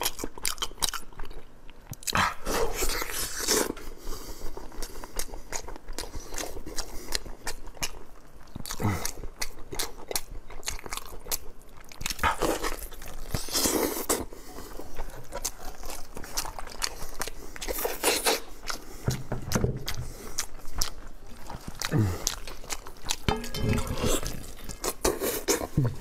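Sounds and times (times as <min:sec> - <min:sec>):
wet chewing and lip-smacking: 0:00.0 - 0:26.0.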